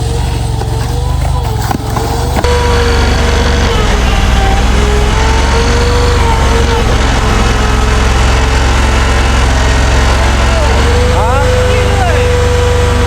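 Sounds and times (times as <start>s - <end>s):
skid steer engine whining: 0.0s - 13.0s.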